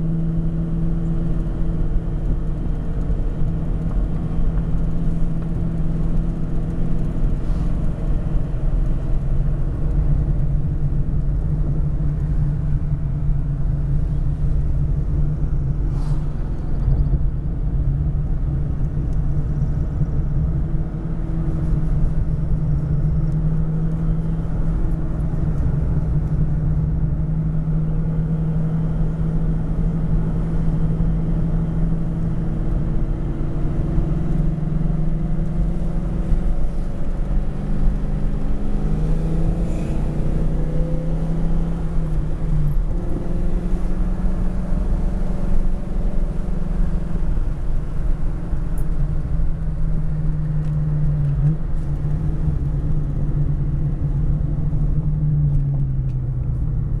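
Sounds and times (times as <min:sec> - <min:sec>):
car engine cruising: 0:00.0 - 0:57.0
road and tyre rumble: 0:00.0 - 0:57.0.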